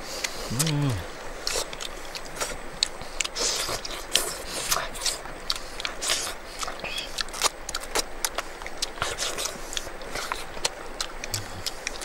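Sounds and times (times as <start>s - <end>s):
people eating with fingers: 0.0s - 12.0s.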